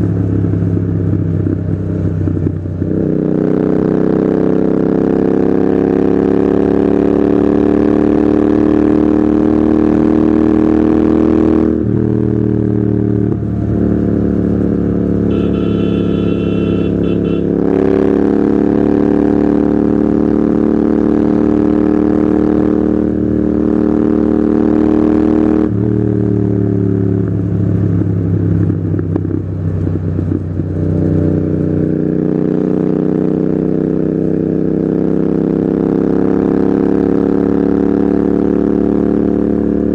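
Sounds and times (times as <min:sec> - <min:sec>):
motorcycle engine with loud exhaust: 0:00.0 - 0:39.9.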